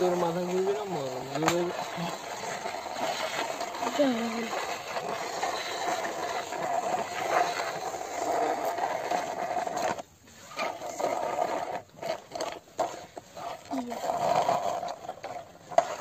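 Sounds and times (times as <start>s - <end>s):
toy wheels rolling on concrete: 0.0s - 16.0s.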